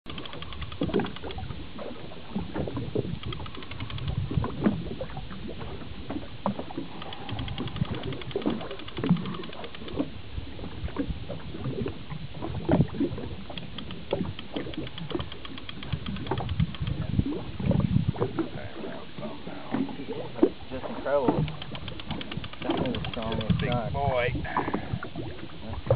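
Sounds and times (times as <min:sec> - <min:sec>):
water slapping boat hull: 0:00.0 - 0:25.9.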